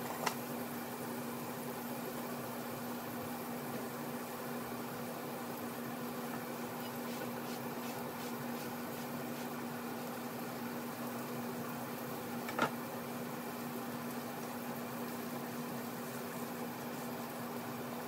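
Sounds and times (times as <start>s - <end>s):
meat searing in oil: 0.0s - 18.0s.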